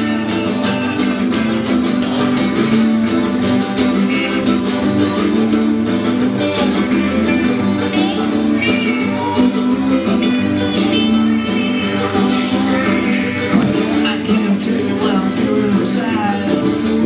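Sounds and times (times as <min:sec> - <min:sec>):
acoustic guitars strummed: 0:00.0 - 0:17.0
live band playing: 0:00.0 - 0:17.0.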